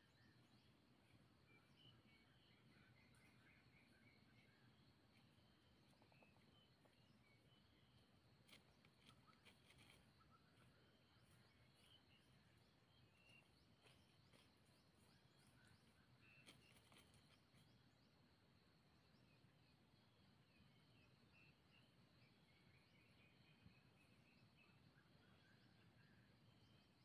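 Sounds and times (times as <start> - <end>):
faint bird chirps: 0.0 - 27.0.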